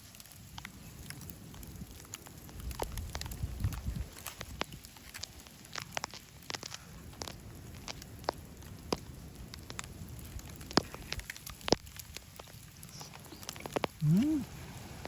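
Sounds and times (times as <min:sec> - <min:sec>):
faint steady hiss: 0:00.0 - 0:15.0
wood fire crackling: 0:00.0 - 0:15.0.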